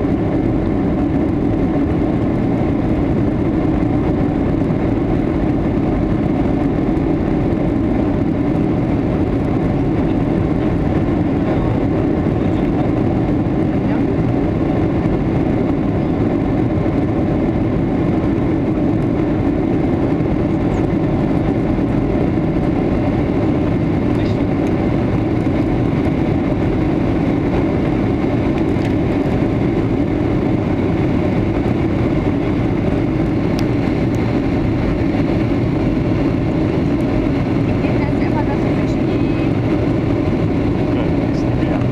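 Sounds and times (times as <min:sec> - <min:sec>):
airplane cabin engine noise: 0:00.0 - 0:41.9.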